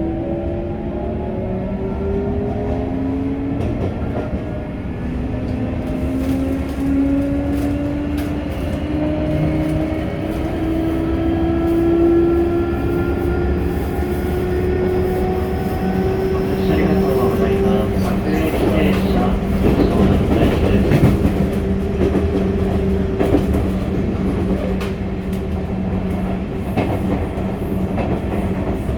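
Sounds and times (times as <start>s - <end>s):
wheels rumbling on rails: 0.0s - 28.9s.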